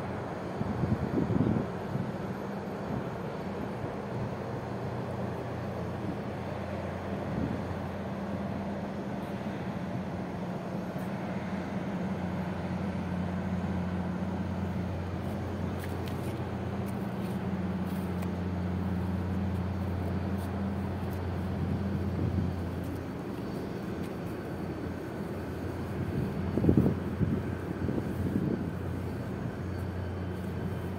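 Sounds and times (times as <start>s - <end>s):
ship engines droning: 0.0s - 30.9s.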